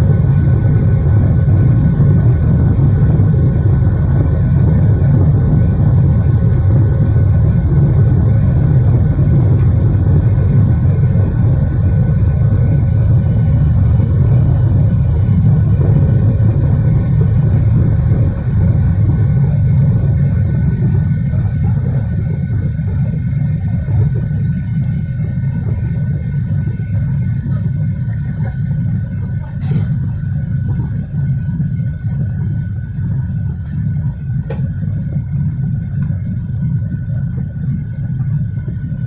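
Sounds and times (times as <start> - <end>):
faint jet engine whine: 0.0 - 39.0
jet engines rumbling at takeoff: 0.0 - 39.0.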